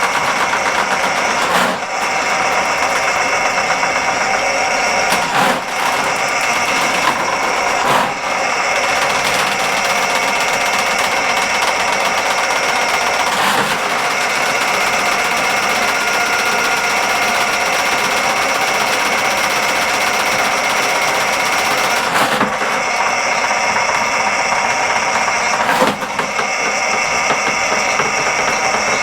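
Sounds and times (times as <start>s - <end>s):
cable turning in drain: 0.0s - 29.0s
drain snake motor running: 0.0s - 29.0s.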